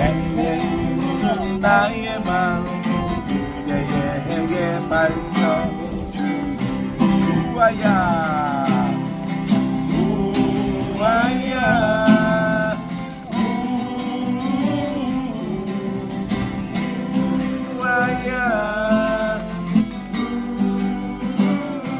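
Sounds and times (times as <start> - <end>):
acoustic guitar strumming chords: 0.0 - 21.9
wordless melody line: 0.0 - 21.9.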